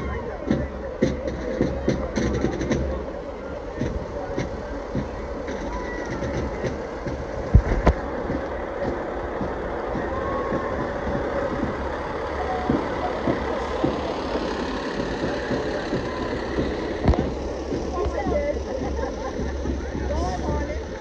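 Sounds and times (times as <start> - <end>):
fire engine diesel motor: 0.0 - 21.0.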